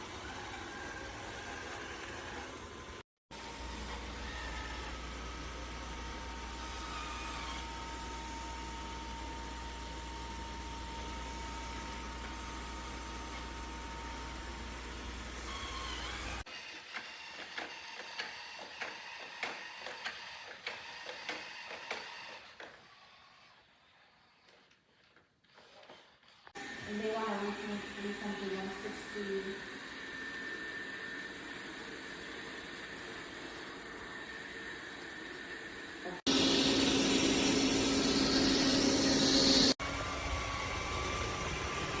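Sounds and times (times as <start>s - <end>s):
robot vacuum whirring: 0.0s - 42.0s.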